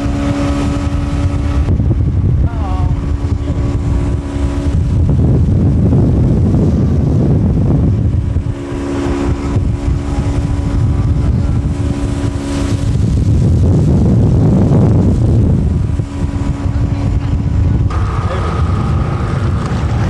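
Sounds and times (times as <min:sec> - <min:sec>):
boat motor running: 0:00.0 - 0:20.0
wind on microphone: 0:00.0 - 0:20.0.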